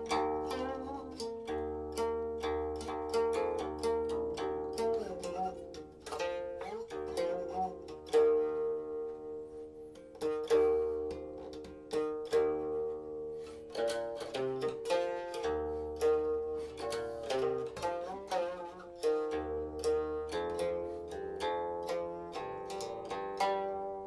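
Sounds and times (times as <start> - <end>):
plucked zither notes sliding: 0.0 - 24.0.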